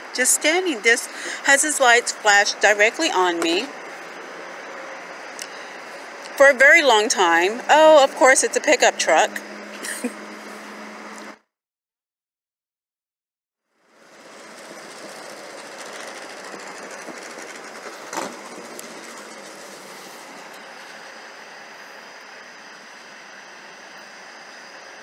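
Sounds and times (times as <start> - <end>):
vehicle road noise: 0.0 - 11.4, 13.7 - 25.0.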